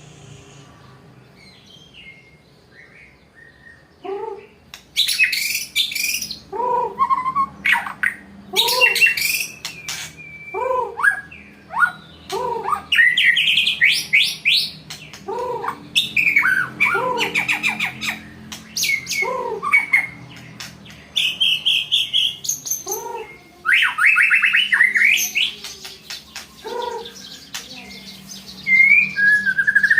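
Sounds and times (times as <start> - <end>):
bird singing trills: 0.1 - 29.9.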